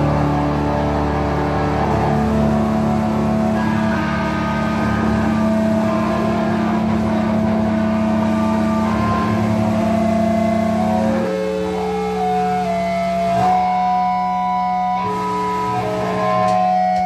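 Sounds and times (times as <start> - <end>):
bass amplifier drone: 0.0 - 17.0
distorted electric guitar chord: 0.0 - 17.0.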